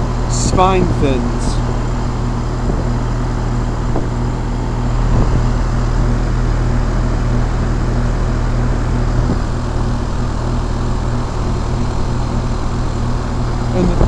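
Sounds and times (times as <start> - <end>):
compressor humming: 0.0 - 14.0
condenser fan rushing: 0.0 - 14.0.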